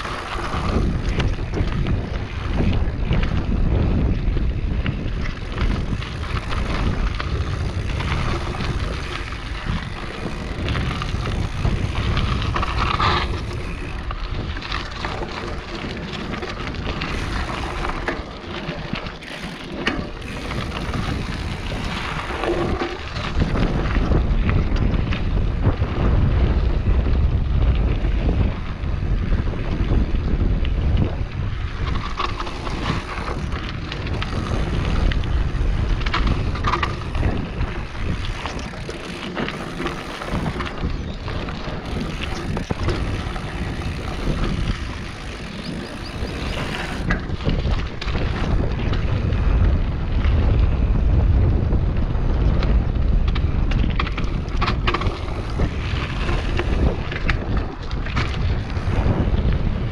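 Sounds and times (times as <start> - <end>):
bike knocking and rattling: 0.0 - 59.9
tyres rumbling on dirt: 0.0 - 59.9
wind rushing over microphone: 0.0 - 59.9.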